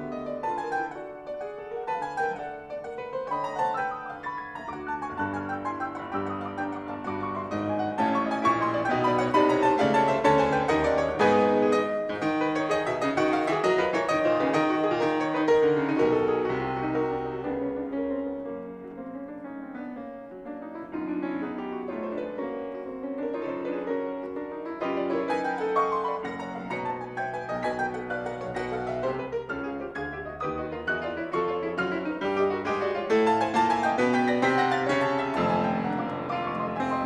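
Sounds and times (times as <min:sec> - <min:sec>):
two pianos playing fugue: 0:00.0 - 0:37.0.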